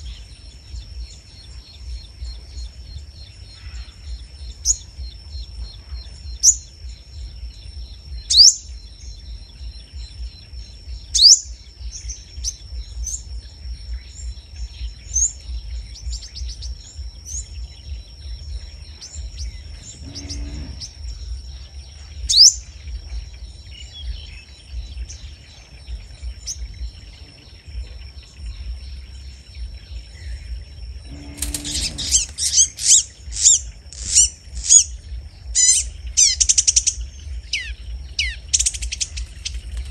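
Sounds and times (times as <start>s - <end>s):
bird chirps: 0.0s - 39.9s
birds chattering calls: 0.0s - 39.9s
high-pitched hum: 0.0s - 39.9s.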